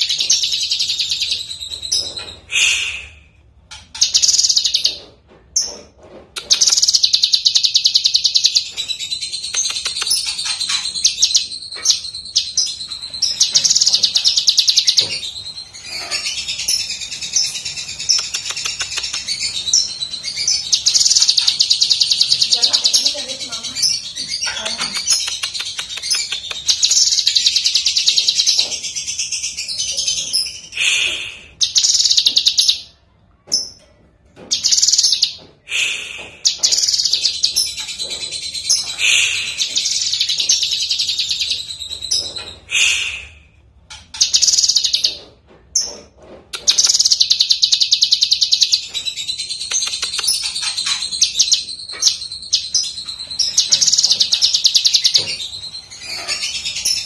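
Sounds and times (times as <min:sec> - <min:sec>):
bird singing rattling trills: 0:03.7 - 0:31.0, 0:31.6 - 0:33.0, 0:34.5 - 0:35.5, 0:36.4 - 0:43.0, 0:43.9 - 0:57.0.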